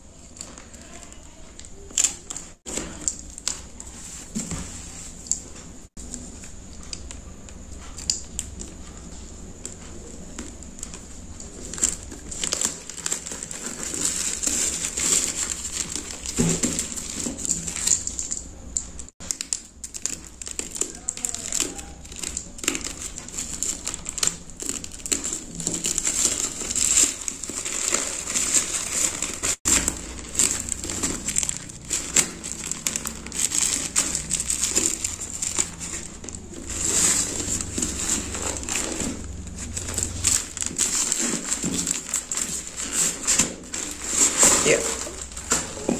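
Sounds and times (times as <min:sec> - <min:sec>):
plastic wrap crinkling and tearing: 0:00.0 - 0:06.7, 0:07.6 - 0:45.9.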